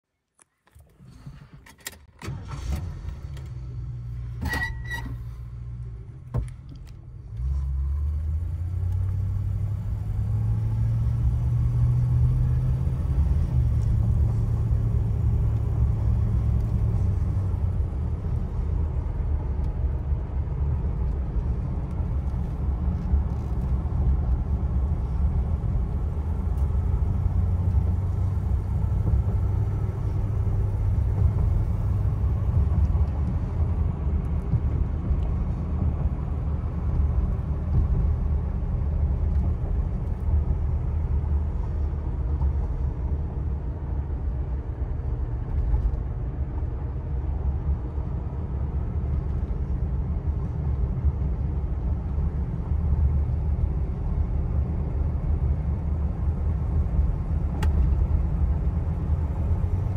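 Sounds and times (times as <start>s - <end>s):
car engine rumble: 0.5s - 59.9s
road noise: 0.6s - 59.9s.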